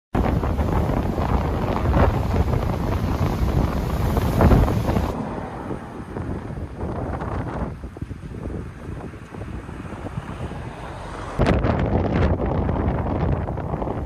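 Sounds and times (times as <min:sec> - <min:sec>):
strong wind buffeting microphone: 0:00.2 - 0:14.0.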